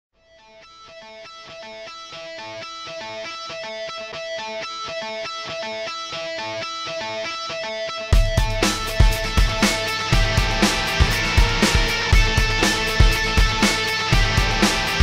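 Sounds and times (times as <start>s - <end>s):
guitar picking a riff: 0.4s - 15.0s.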